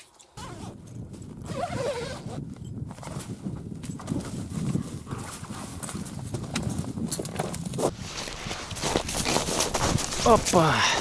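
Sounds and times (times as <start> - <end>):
crunches and rustles: 0.0 - 11.0
wind buffeting microphone: 0.4 - 11.0.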